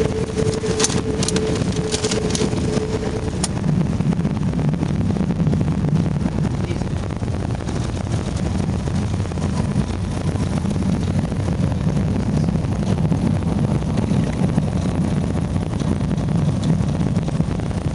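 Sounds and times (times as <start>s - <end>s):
light aircraft engine and propeller: 0.0s - 17.9s.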